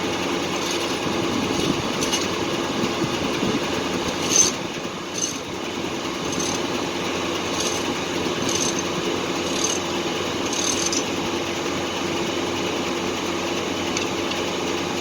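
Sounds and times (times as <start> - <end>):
sawmill machine running: 0.0 - 15.0.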